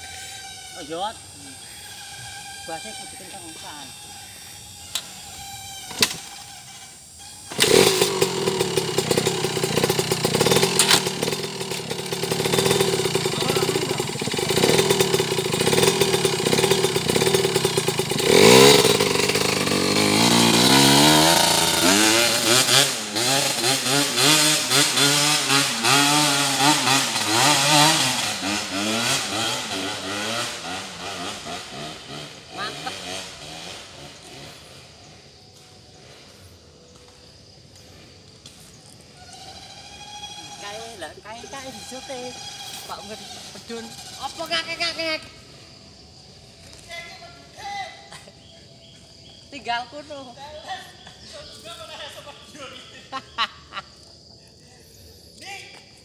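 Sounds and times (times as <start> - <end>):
motorcycle engine revving: 0.0 - 53.4.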